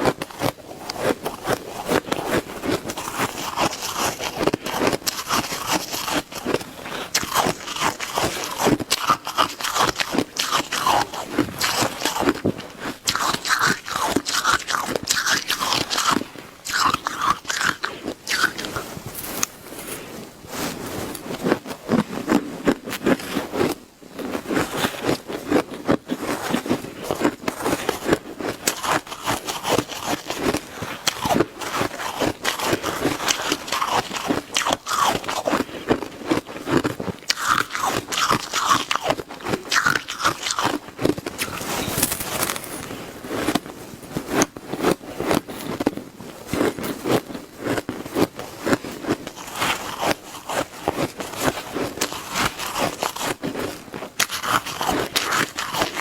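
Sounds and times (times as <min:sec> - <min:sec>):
chewing shaved ice: 0:00.0 - 0:20.0, 0:20.9 - 0:56.0.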